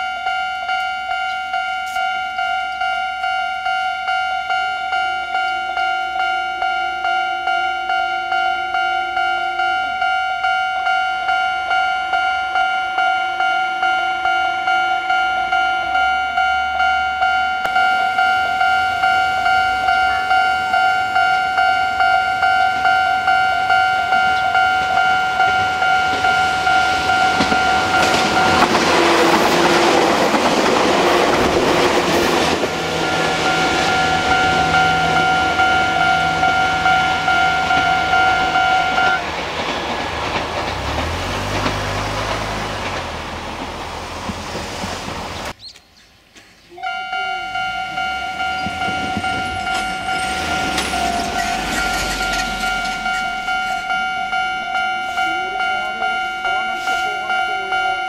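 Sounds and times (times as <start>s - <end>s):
level-crossing warning bell: 0.0s - 44.3s, 46.8s - 58.0s
electric train passing: 0.0s - 45.6s, 46.7s - 58.0s.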